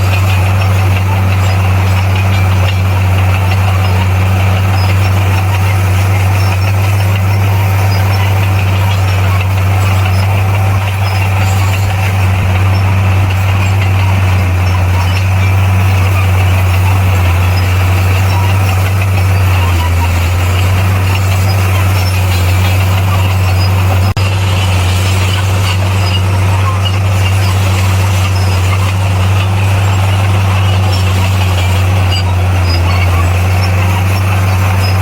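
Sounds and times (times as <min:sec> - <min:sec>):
bulldozer diesel engine droning: 0:00.0 - 0:35.0.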